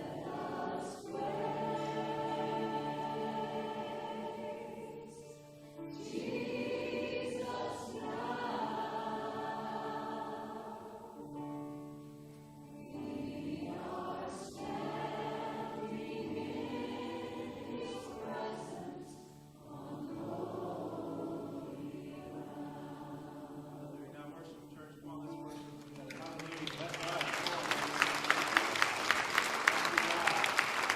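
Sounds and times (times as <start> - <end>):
congregation singing worship song: 0.0 - 30.9
musical accompaniment: 0.0 - 30.9.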